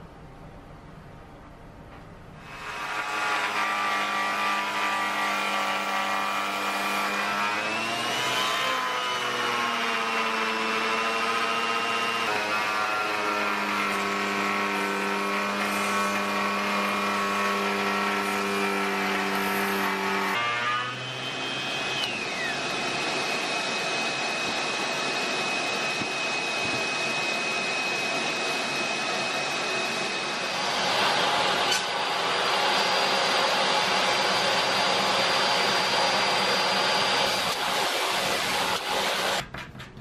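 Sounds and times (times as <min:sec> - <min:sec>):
wood router cutting timber: 0:02.4 - 0:39.4.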